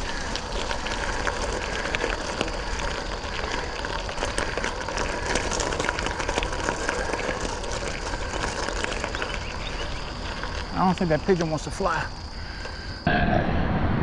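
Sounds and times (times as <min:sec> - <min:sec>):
bicycle tyres rolling on wet gravel: 0:00.0 - 0:13.0.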